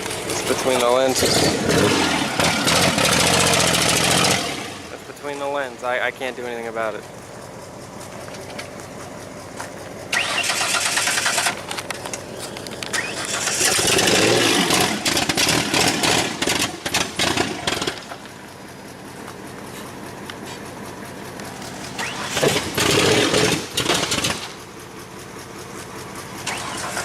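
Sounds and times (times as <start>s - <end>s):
car engine revving: 0.0s - 20.6s, 21.2s - 24.8s, 26.4s - 27.0s.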